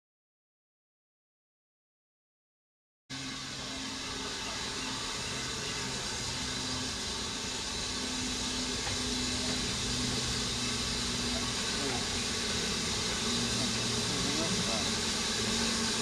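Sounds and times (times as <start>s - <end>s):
steam locomotive hissing: 3.1s - 16.0s.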